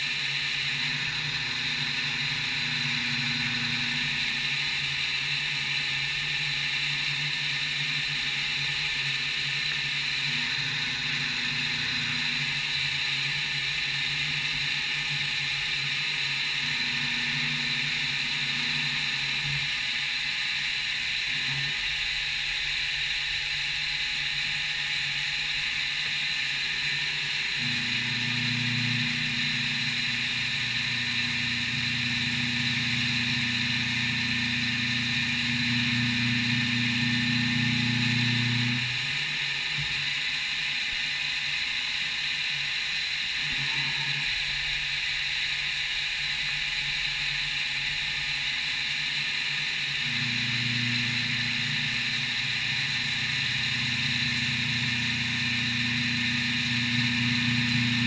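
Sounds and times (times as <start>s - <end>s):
machine high whine: 0.0s - 58.0s
machine low hum: 0.0s - 58.0s.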